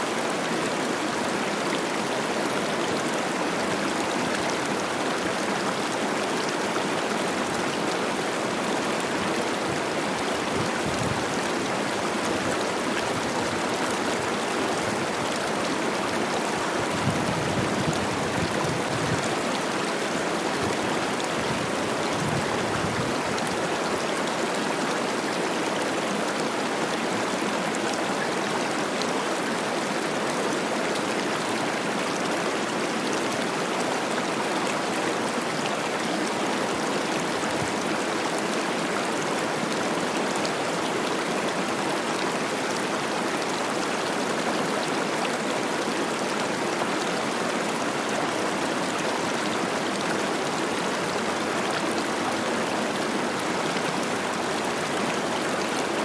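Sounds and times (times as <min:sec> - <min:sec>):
river water rushing and splashing: 0:00.0 - 0:56.0.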